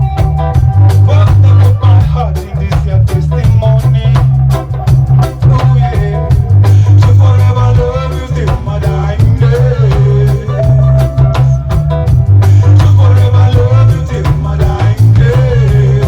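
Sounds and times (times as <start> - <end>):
drum kit beat: 0.0 - 16.0
heavy bass line: 0.0 - 16.0
reggae band playing: 0.0 - 16.0.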